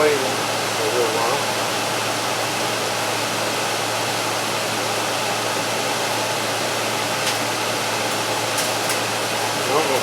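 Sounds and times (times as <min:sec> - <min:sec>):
air conditioner fan running: 0:00.0 - 0:10.0.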